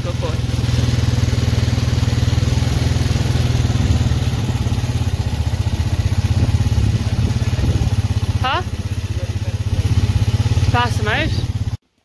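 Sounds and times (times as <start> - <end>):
quad bike engine running: 0.0 - 11.8.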